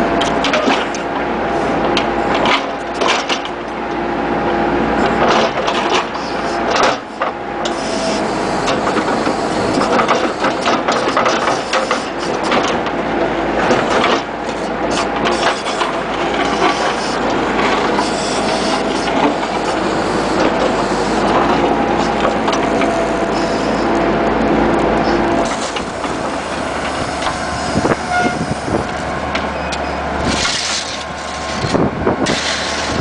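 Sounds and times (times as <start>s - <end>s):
backhoe clanks and knocks: 0.0s - 4.0s, 4.9s - 33.0s
loader engine running: 0.0s - 33.0s.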